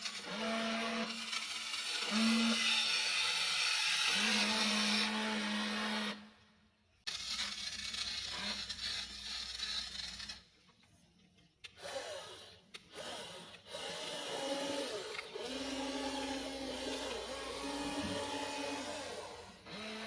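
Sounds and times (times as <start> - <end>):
small electric motors whirring: 0.0 - 6.4, 7.1 - 10.6, 11.6 - 20.0.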